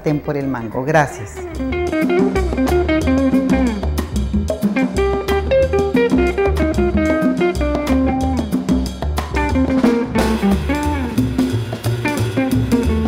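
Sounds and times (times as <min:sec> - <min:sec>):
instrumental music with guitar and drums: 0:01.4 - 0:13.0.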